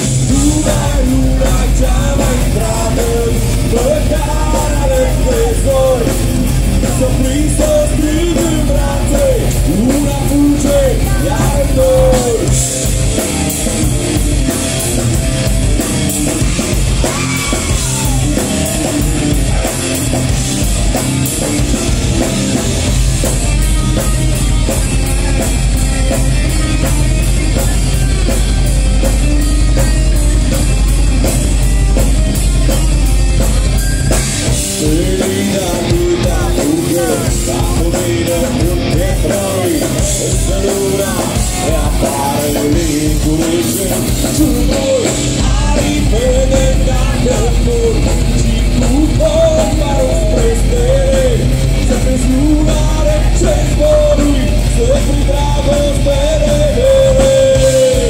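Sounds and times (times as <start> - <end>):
person singing: 0.0 - 15.5, 16.4 - 20.2, 20.9 - 58.0
bass guitar: 0.0 - 58.0
distorted electric guitars: 0.0 - 58.0
fast dense drumming: 0.0 - 58.0.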